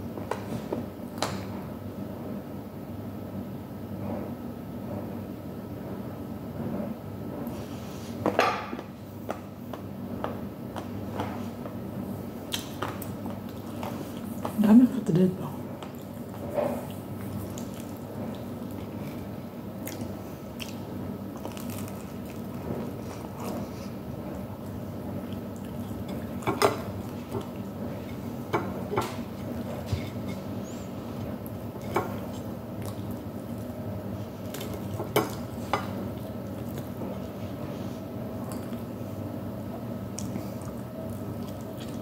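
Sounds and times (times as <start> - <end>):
low background hum: 0.0 - 42.0.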